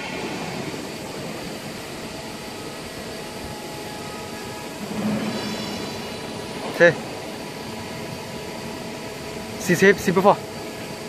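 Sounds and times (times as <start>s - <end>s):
lower hum: 0.0s - 9.6s
hydraulic pump humming: 0.0s - 11.0s.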